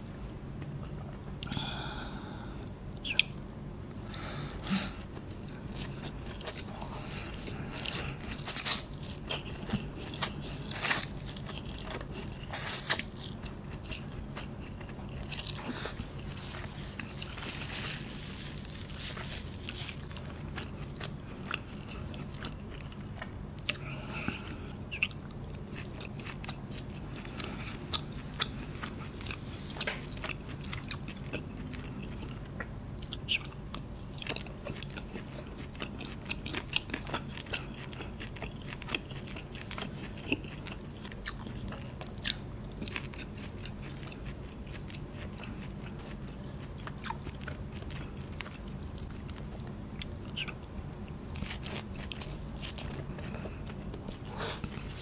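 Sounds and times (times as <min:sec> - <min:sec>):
steady low hum: 0:00.0 - 0:55.0
chewing noodles: 0:04.5 - 0:55.0.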